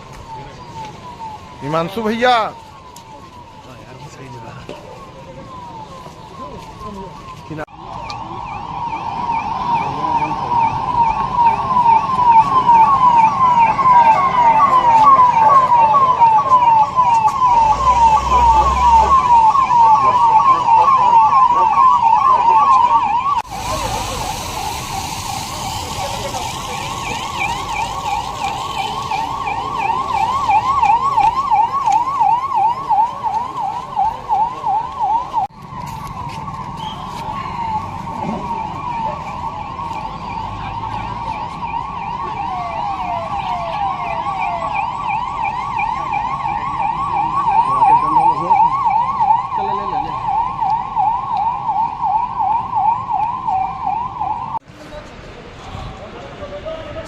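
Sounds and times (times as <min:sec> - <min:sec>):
emergency siren yelping: 0:00.0 - 0:54.6.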